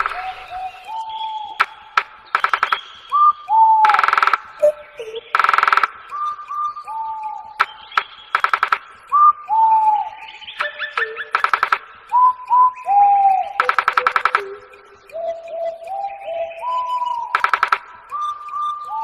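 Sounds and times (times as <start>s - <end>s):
birds whistling: 0.0s - 19.0s
harsh rasping bird calls: 0.0s - 19.0s.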